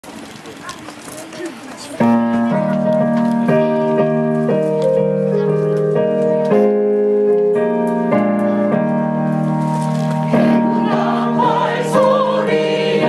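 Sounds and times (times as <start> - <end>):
keyboard playing block chords: 2.0 - 13.0.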